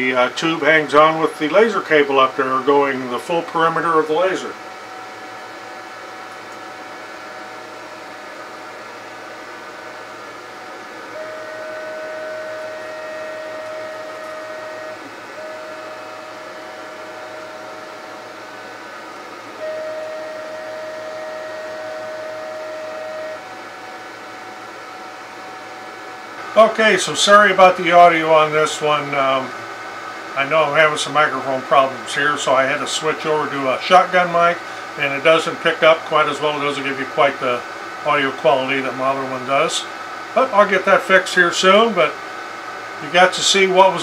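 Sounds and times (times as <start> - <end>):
stepper motors whining: 0.0 - 44.0.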